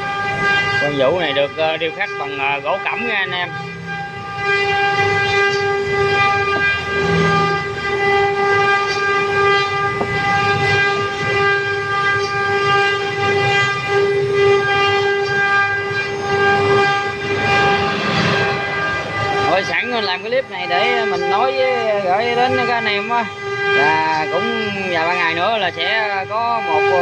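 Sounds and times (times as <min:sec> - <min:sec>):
router spindle high whine: 0:00.0 - 0:27.0.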